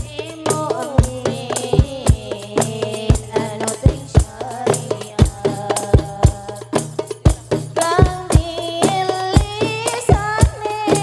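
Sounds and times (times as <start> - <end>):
frame drums and hand percussion: 0.0 - 11.0
woman singing devotional melody: 0.0 - 11.0.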